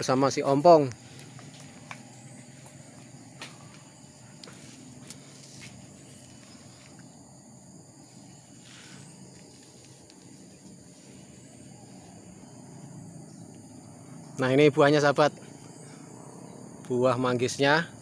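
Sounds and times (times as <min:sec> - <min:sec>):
leaves and branches rustling: 0:00.0 - 0:16.6
high insect drone: 0:00.0 - 0:18.0.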